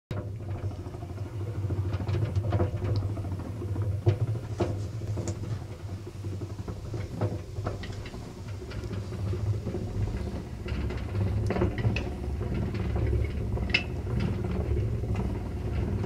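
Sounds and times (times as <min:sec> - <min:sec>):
clicks and knocks of drum turning: 0:00.1 - 0:16.0
honey extractor humming: 0:00.1 - 0:16.0.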